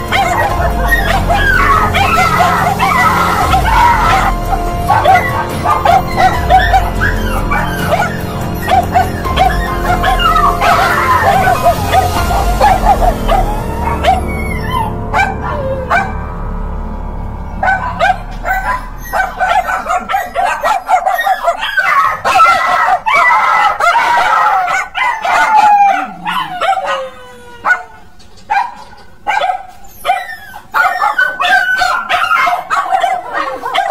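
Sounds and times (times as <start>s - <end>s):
dog yelping and howling: 0.0s - 16.3s, 17.5s - 33.9s.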